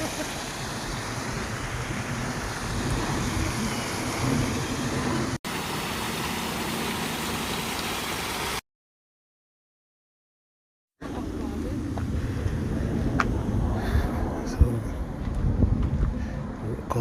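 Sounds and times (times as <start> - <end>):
rushing outdoor background noise: 0.0 - 8.6, 11.0 - 17.0.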